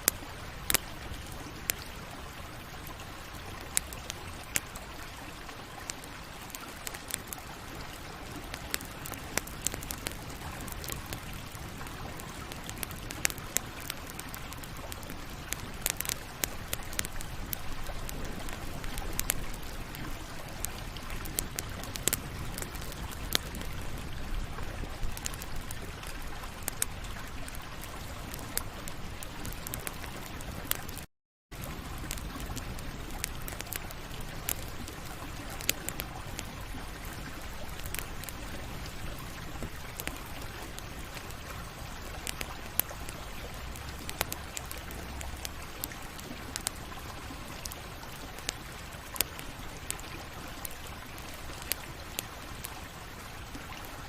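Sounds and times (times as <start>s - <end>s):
campfire hissing: 0.0s - 31.0s, 31.6s - 54.0s
burning wood crackling and popping: 0.0s - 54.0s.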